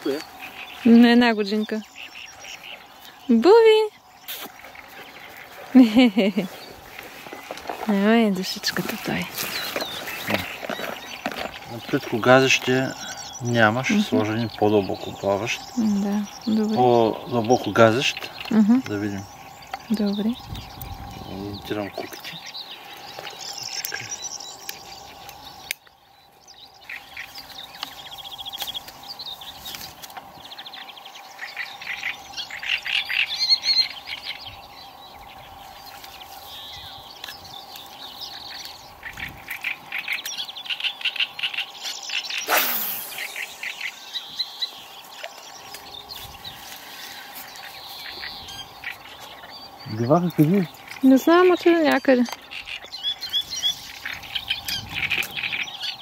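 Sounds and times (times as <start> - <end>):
birds singing and chirping: 0.0 - 56.0.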